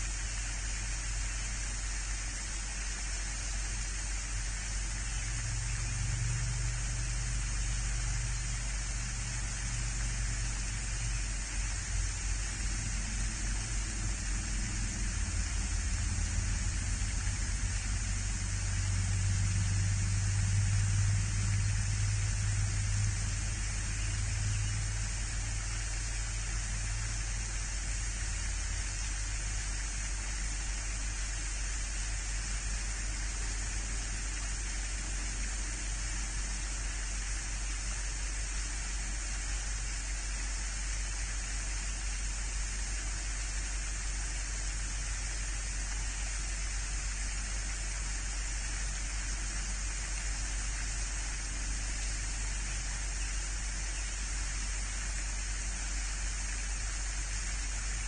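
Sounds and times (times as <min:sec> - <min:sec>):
low hum: 0:00.0 - 0:58.0
steady hiss: 0:00.0 - 0:58.0.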